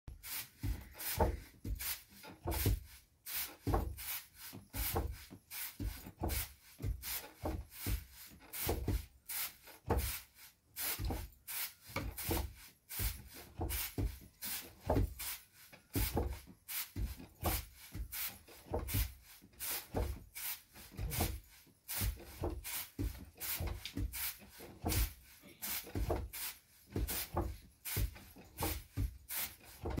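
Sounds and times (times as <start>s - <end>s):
wooden pounder thudding on grain: 0.1s - 30.0s.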